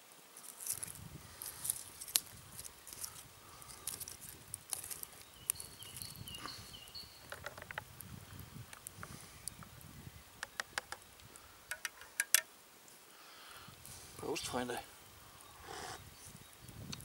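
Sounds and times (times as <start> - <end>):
campfire crackling and popping: 0.3 - 17.0.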